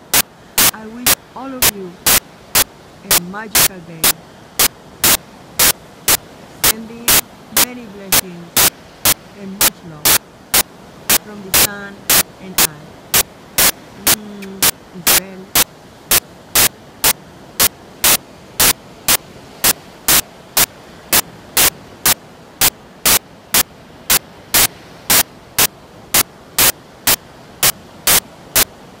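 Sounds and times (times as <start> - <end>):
static bursts: 0.0 - 29.0
steady hiss: 0.0 - 29.0.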